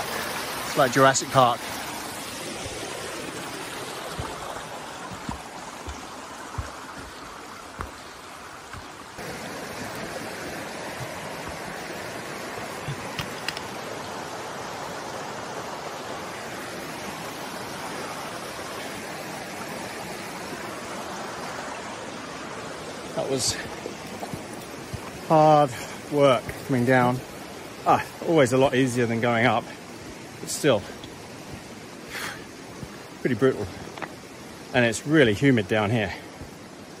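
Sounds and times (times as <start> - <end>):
mountain stream rushing over stones: 0.0 - 37.0.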